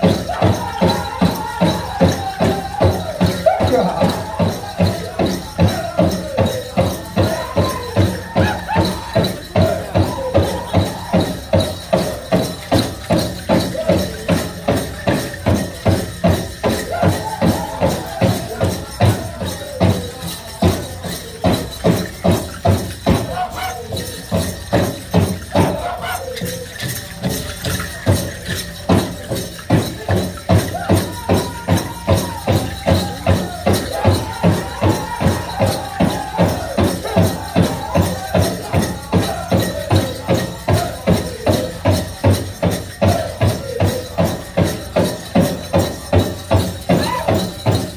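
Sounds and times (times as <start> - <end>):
people singing high voices: 0.0 - 45.5, 46.8 - 47.8
big drum steady beat: 0.0 - 47.9.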